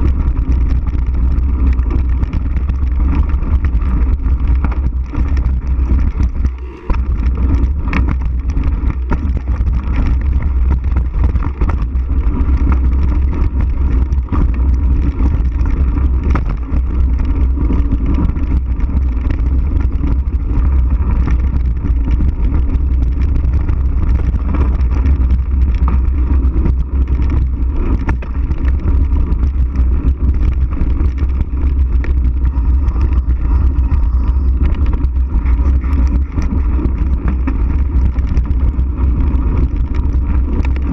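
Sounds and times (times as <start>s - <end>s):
bike clicking and rattling: 0.0s - 40.9s
tyres rolling on gravel: 0.0s - 40.9s
wind rumble on microphone: 0.0s - 40.9s.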